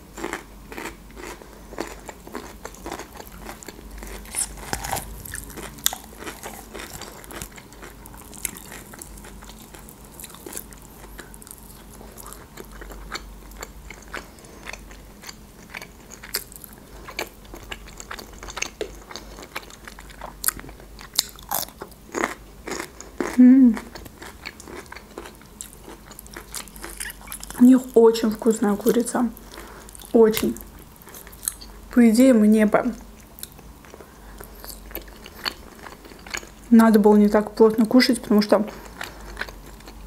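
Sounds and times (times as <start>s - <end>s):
crunching and chewing chicken: 0.0s - 31.9s, 33.1s - 36.7s, 38.6s - 40.0s.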